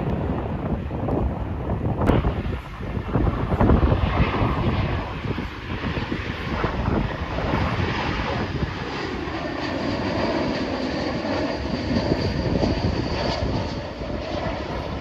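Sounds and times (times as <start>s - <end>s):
jet airliner engines rushing: 0.0s - 15.0s
wind buffeting microphone: 0.0s - 15.0s.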